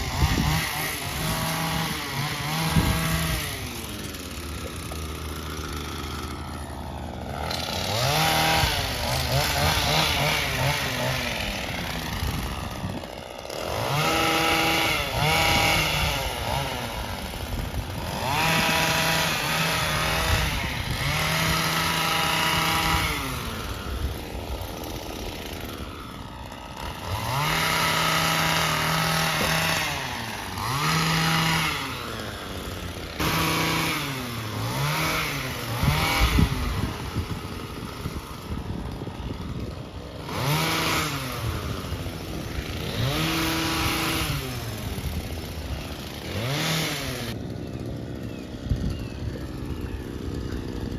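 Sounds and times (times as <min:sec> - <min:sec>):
two-stroke engine revving: 0:00.0 - 0:50.9.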